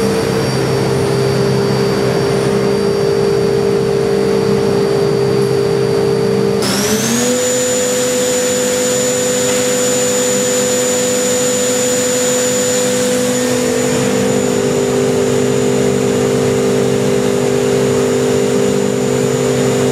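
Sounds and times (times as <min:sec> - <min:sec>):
machine spindle whining: 0:00.0 - 0:19.9.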